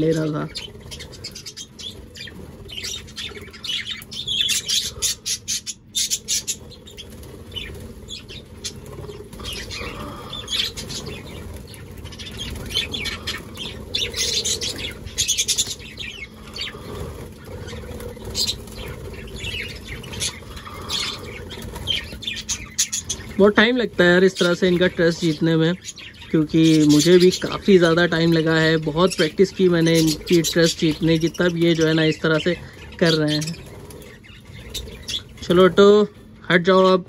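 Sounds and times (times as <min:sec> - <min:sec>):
budgerigars chirping and squawking: 0:00.0 - 0:37.0
wings fluttering: 0:00.0 - 0:37.0.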